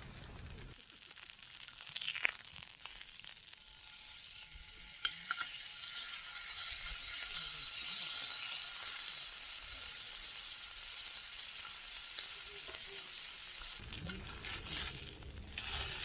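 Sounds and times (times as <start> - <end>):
steak sizzling: 0.0 - 16.0.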